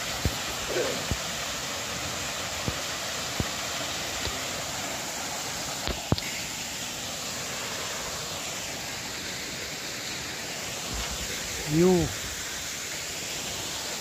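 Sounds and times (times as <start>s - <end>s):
small waterfall rushing: 0.0s - 14.0s.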